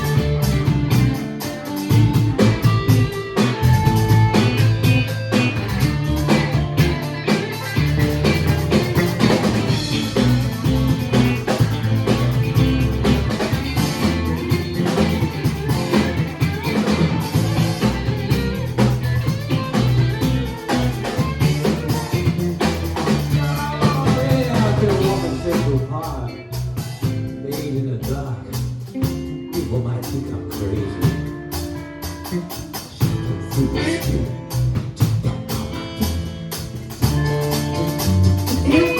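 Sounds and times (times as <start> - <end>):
drum kit beat: 0.0 - 38.9
guitar: 0.0 - 38.9
live band instrumental: 0.0 - 38.9.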